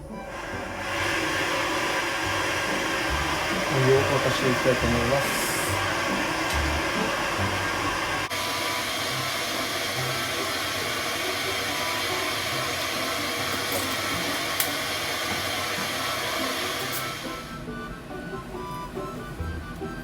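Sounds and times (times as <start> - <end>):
gas burner hissing: 0.0 - 18.0.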